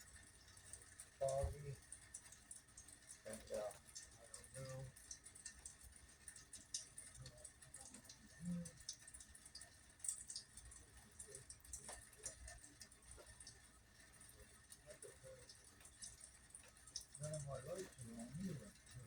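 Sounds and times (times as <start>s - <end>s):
rain dripping and pattering: 0.0s - 19.0s.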